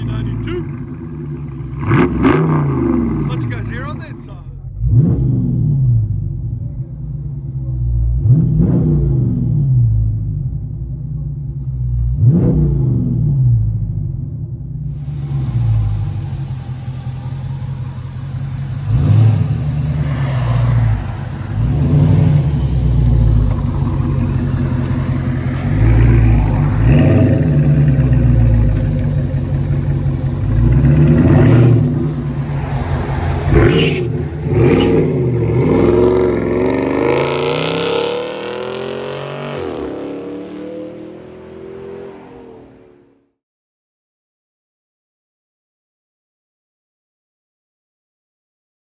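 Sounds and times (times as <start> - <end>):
car engine revving: 0.0 - 43.4.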